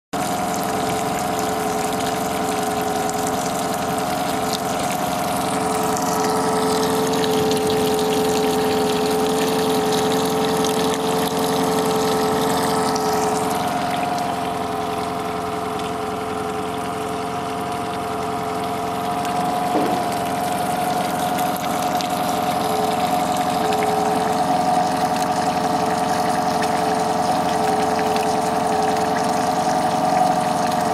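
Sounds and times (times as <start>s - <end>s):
outboard motor idling: 0.2s - 30.9s.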